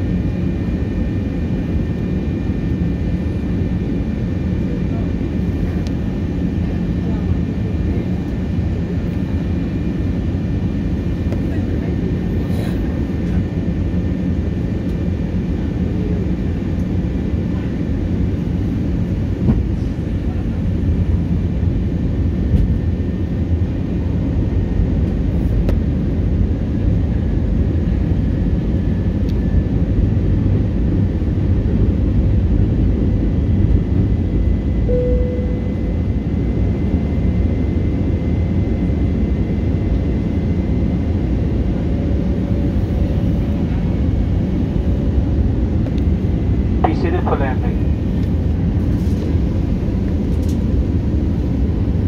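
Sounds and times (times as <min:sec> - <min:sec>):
airliner cabin engine roar: 0:00.0 - 0:52.0.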